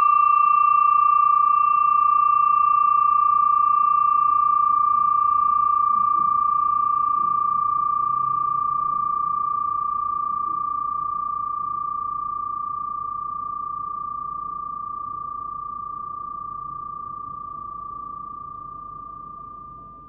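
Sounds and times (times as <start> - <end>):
flat metal bell ringing: 0.0 - 20.0.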